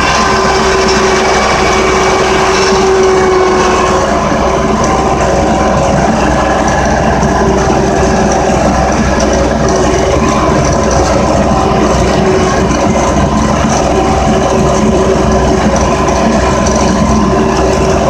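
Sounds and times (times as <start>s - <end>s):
engine running under load: 0.0s - 18.0s
steady whine: 0.0s - 18.0s.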